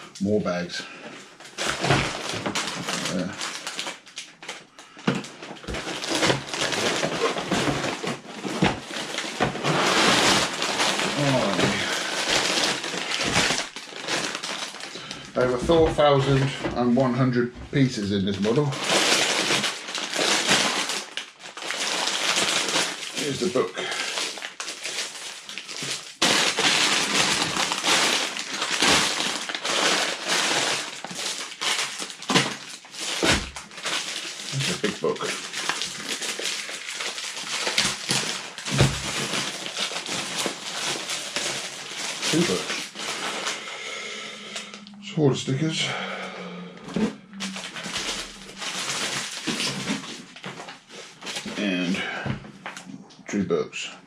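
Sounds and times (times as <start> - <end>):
plastic bags crinkling: 0.0 - 45.0, 46.8 - 52.8.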